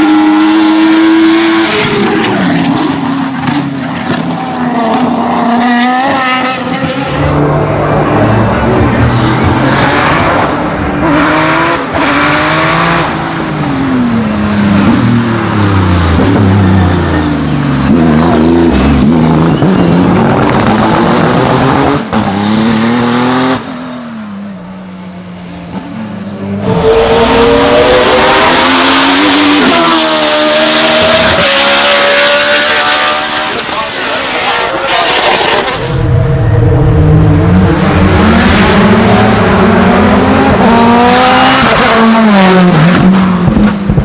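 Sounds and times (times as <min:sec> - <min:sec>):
race car engine revving: 0:00.0 - 0:23.8, 0:25.7 - 0:44.0.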